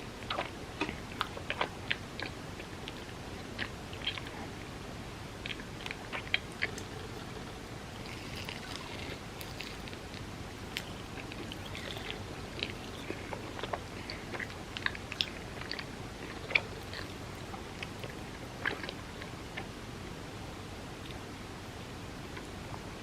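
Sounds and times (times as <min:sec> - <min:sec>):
person chewing food: 0:00.2 - 0:19.7.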